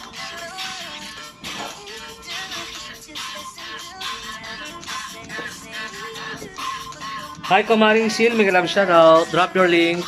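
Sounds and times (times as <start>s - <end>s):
pop love song: 0.0s - 10.0s.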